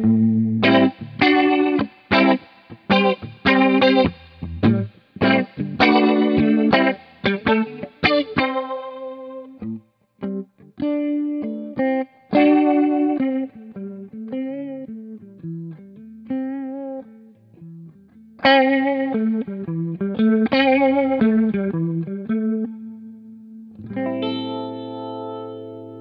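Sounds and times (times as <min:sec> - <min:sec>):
electric guitar with rotary swirl: 0:00.0 - 0:26.0.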